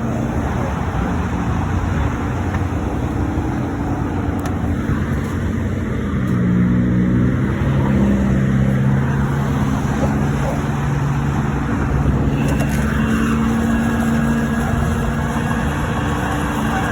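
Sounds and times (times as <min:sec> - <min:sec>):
highway traffic noise: 0:00.0 - 0:16.9
vehicle engine running: 0:00.0 - 0:16.9.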